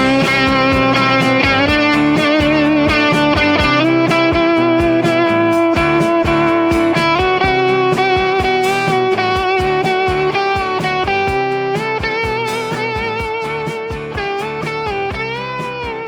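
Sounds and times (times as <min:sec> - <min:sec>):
electric guitar lead with vibrato: 0:00.0 - 0:16.0
steady drum beat: 0:00.0 - 0:16.0.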